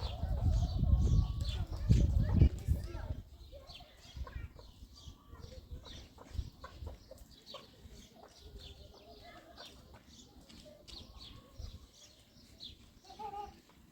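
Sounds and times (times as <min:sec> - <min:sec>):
chickens clucking: 0:00.0 - 0:13.8.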